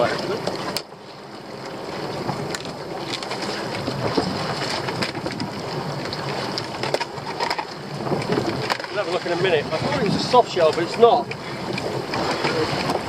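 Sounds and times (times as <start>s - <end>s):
water slopping around boat: 0.0s - 13.0s
wind buffeting microphone: 1.8s - 13.0s.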